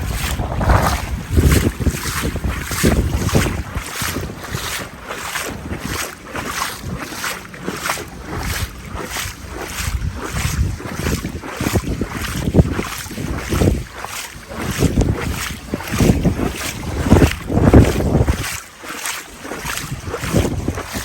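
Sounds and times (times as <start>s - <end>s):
wind buffeting microphone: 0.0s - 18.6s, 19.5s - 21.0s
footsteps splashing in water: 0.0s - 21.0s.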